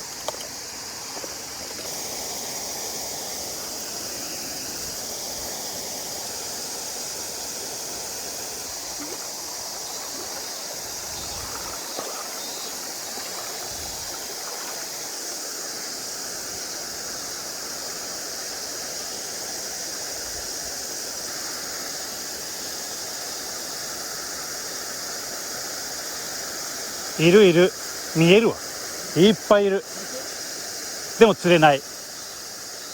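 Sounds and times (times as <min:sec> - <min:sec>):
stream water rushing: 0:00.0 - 0:32.9.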